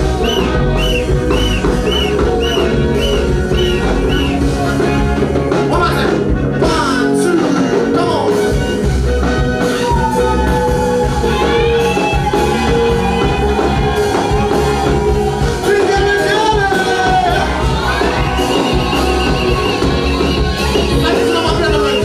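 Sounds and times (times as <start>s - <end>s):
band accompaniment: 0.0s - 22.0s
steady drum beat: 0.0s - 22.0s.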